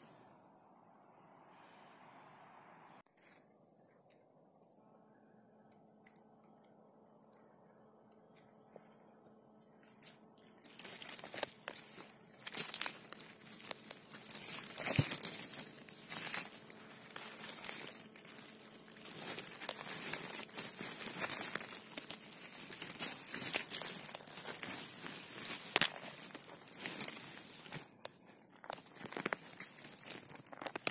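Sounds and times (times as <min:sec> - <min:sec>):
hand scraping dry needles and leaves: 0:03.1 - 0:04.2, 0:05.8 - 0:07.4, 0:08.2 - 0:30.9.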